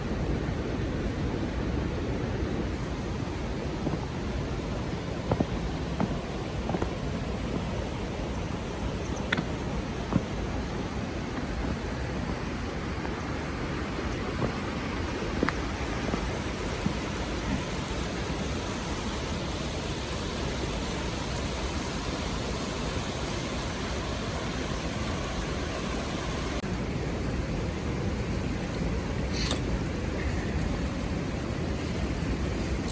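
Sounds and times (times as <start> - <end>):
steady outdoor rushing noise: 0.0 - 32.9.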